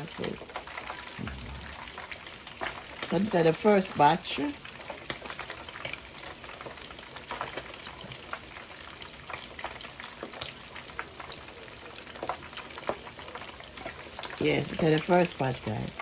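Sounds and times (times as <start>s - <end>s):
fish frying in hot oil: 0.0s - 16.0s
oil crackles and pops: 0.0s - 16.0s.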